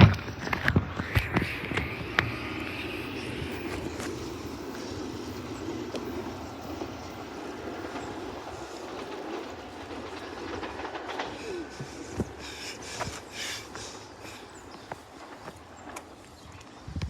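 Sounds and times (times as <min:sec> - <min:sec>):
train rumbling past: 0:00.0 - 0:16.9
wheels clicking over rail joints: 0:00.0 - 0:17.0.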